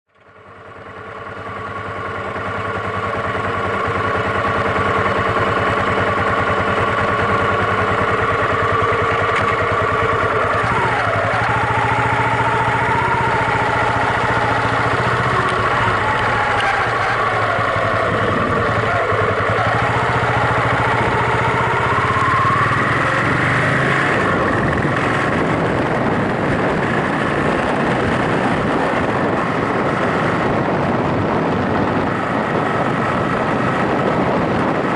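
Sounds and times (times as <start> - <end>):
single-cylinder engine running: 0.1 - 34.9.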